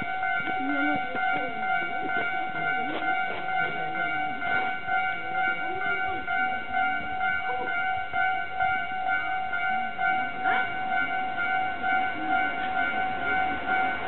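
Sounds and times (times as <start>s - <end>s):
level-crossing bell dinging: 0.0s - 14.0s.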